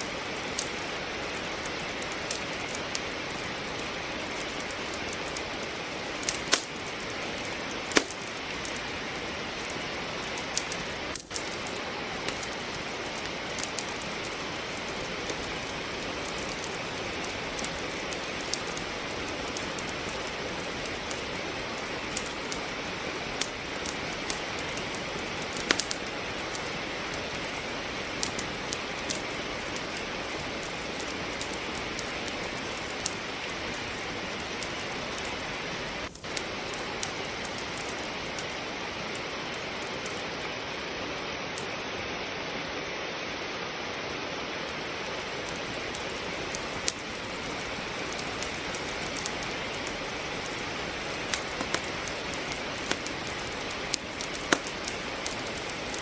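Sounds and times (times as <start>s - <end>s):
rain hiss: 0.0s - 56.0s
wood fire crackling and popping: 0.0s - 56.0s.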